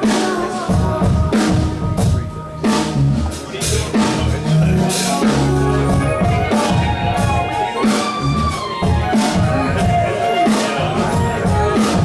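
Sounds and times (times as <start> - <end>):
bass guitar: 0.0 - 12.0
drum kit beat: 0.0 - 12.0
live band playing: 0.0 - 12.0.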